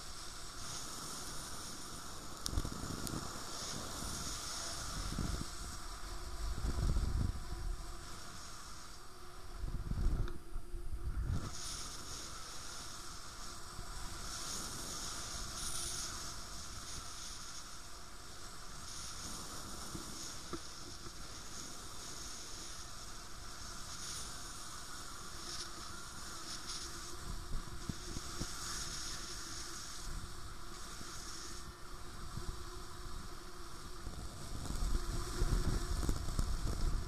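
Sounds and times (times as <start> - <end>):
wind rushing over camera: 0.0 - 37.0.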